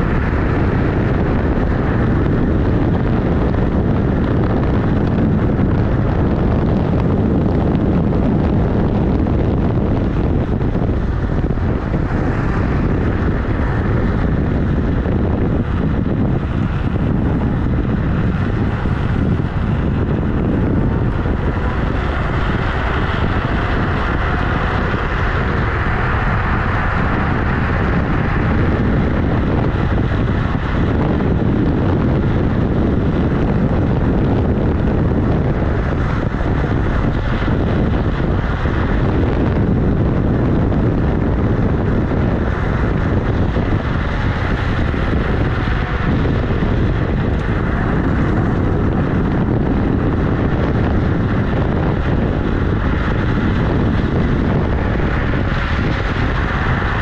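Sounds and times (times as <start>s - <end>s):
scooter tyre rumble on asphalt: 0.0s - 57.0s
wind noise on microphone: 0.0s - 57.0s.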